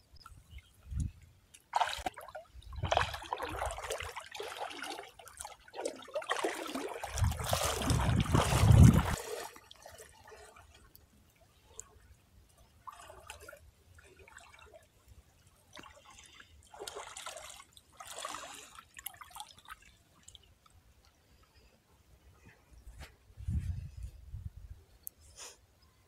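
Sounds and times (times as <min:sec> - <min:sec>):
faint water sloshing: 0:00.2 - 0:21.8.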